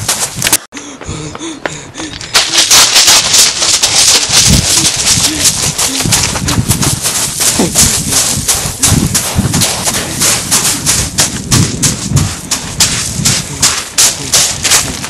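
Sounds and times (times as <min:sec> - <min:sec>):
running footsteps on pebbles: 0:00.0 - 0:15.0.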